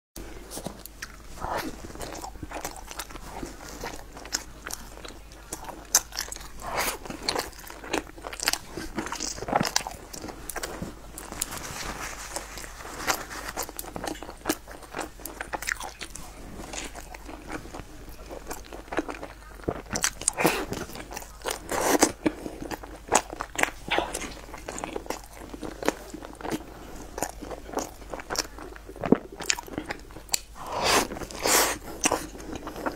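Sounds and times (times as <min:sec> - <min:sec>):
person chewing bread: 0:00.2 - 0:32.9
crackly crunches: 0:00.5 - 0:32.9.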